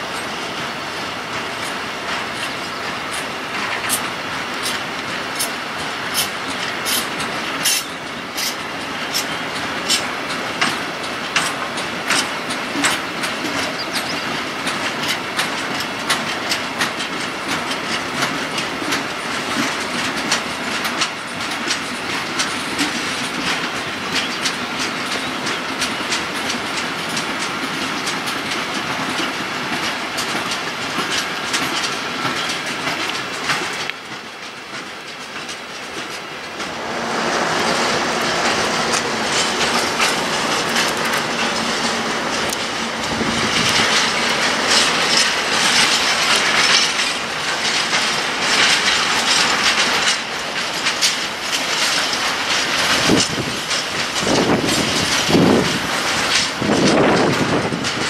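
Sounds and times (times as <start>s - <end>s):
train rumble and rattle: 0.0s - 58.0s
train wheels clickety-clack: 0.0s - 58.0s.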